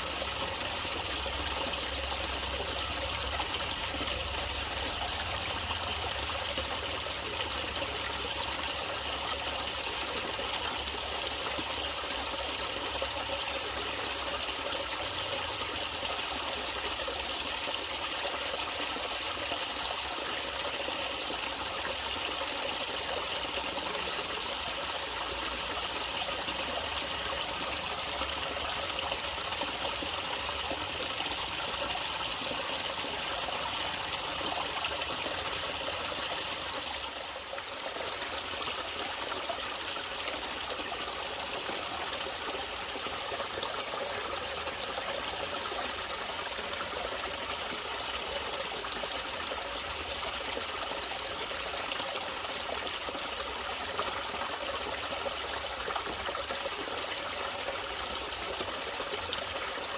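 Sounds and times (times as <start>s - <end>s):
water trickling over stones: 0.0s - 59.9s.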